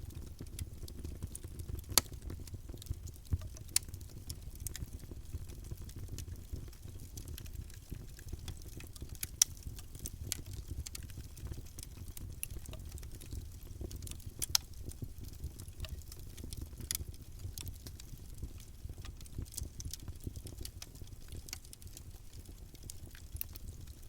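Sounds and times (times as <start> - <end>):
burning wood crackling and popping: 0.0 - 24.0
campfire flames rumbling: 0.0 - 24.0.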